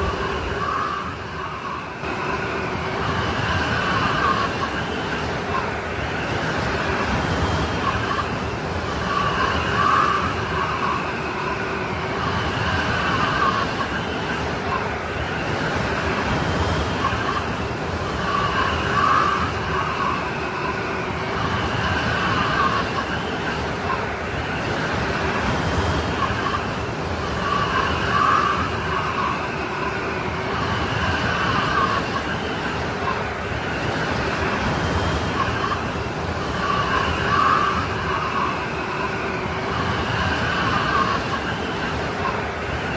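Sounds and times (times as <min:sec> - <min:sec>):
howling blizzard wind: 0:00.0 - 0:42.9.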